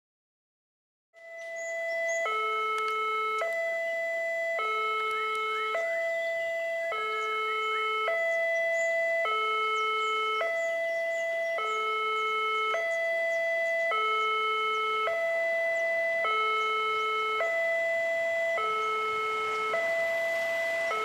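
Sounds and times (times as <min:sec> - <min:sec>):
level crossing two-tone alarm: 0:01.2 - 0:21.0.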